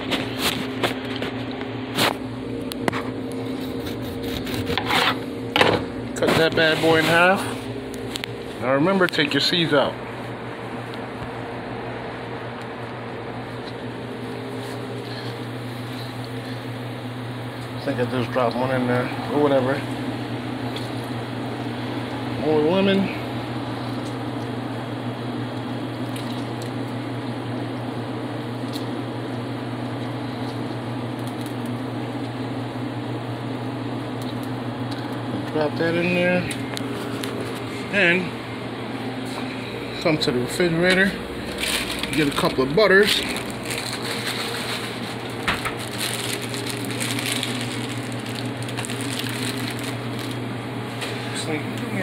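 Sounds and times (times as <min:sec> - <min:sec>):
gas stove hum and hiss: 0:00.0 - 0:52.0.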